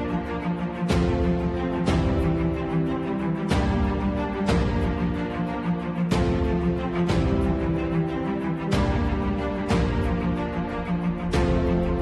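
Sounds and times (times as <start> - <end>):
background music with sustained chords: 0.0 - 12.0.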